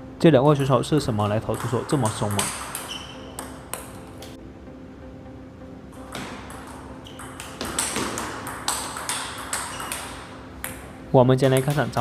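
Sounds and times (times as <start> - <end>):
table tennis ball clicking: 0.5 - 4.4, 6.0 - 12.0.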